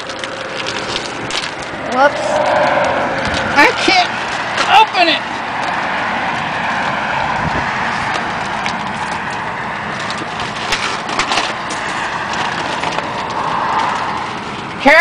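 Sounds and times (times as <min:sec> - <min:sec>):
rushing background noise: 0:00.0 - 0:14.8.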